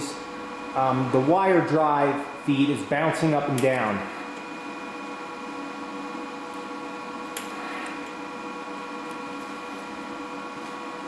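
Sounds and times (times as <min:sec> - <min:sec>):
wire feed motor whining: 0:00.0 - 0:11.0.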